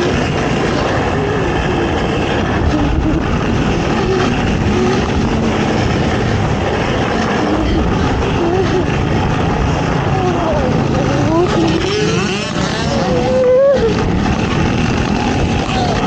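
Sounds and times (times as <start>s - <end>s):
atv engine revving: 0.0s - 16.0s
heavy rumbling noise: 0.0s - 16.0s.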